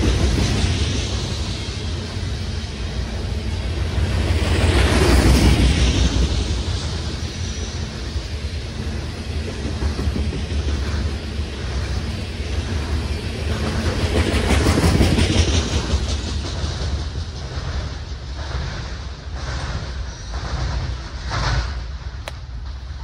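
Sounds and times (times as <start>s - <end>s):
freight train wheels clacking: 0.0s - 23.0s.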